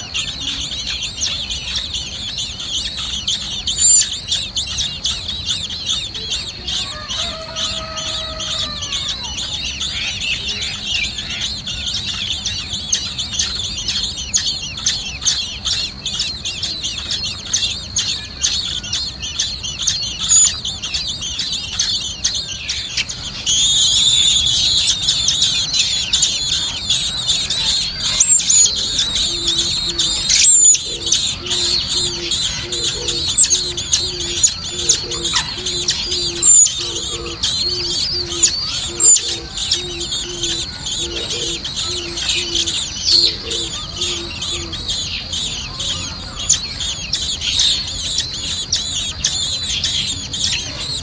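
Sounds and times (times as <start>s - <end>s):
nestlings cheeping: 0.0s - 51.0s.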